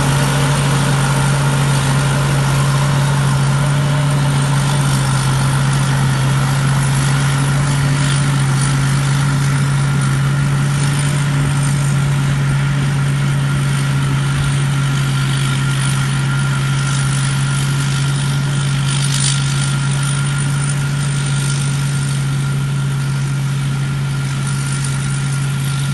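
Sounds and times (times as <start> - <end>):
harvester engine drone: 0.0 - 25.9
high engine whine: 0.0 - 25.9.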